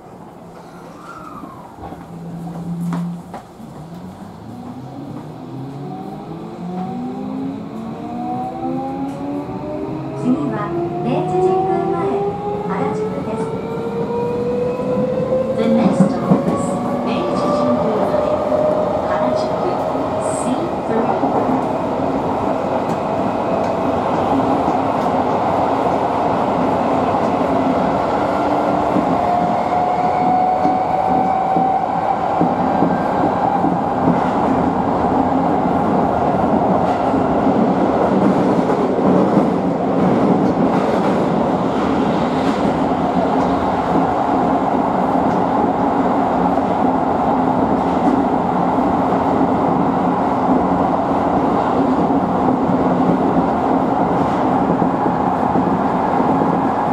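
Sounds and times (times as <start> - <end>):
wheels rumbling on rail: 0.0 - 56.9.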